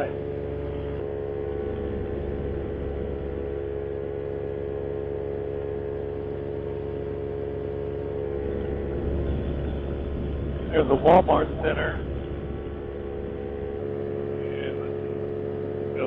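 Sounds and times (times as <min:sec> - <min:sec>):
paramotor engine droning: 0:00.0 - 0:16.0.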